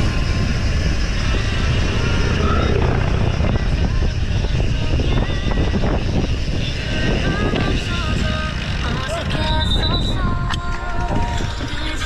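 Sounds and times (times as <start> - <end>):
road rumble: 0.0 - 12.0
wind buffeting: 0.0 - 12.0.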